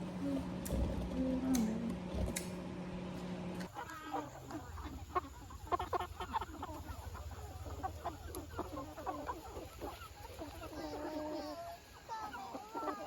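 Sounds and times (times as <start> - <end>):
low steady hum: 0.0 - 13.0
chickens clucking: 0.1 - 13.0.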